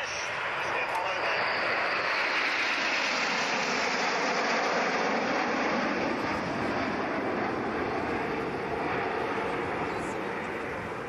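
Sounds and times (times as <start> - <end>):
jets roaring overhead: 0.0 - 11.0.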